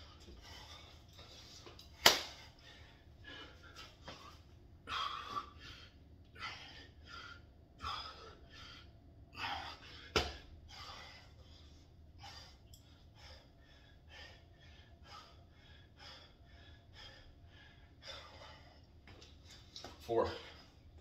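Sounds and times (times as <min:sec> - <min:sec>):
man breathing hard: 0:00.0 - 0:19.1.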